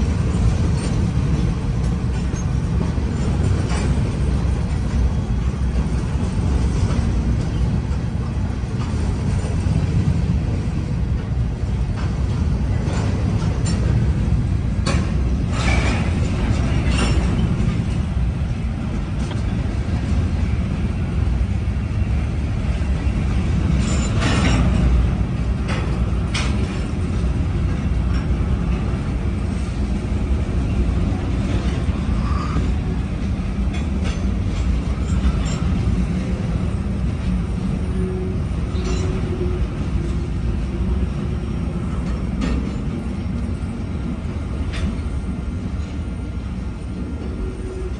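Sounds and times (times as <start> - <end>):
steel wheels rumbling on rail: 0.0 - 47.9
train cars clanking: 0.0 - 47.9.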